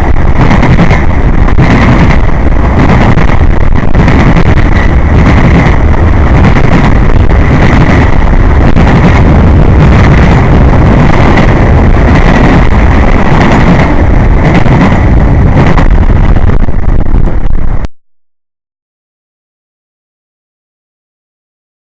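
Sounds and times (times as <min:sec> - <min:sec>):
freight train rumbling past: 0:00.0 - 0:17.9.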